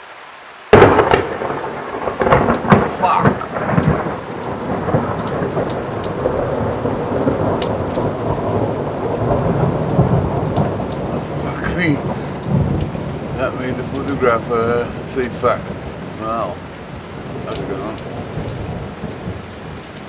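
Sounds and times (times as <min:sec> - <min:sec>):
rain falling: 0:00.0 - 0:20.0
thunder crackling and rumbling: 0:00.7 - 0:20.0.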